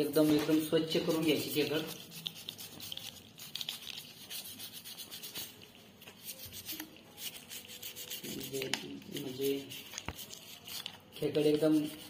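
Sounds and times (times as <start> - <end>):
toothbrush scrubbing crab shell: 0.0 - 12.0.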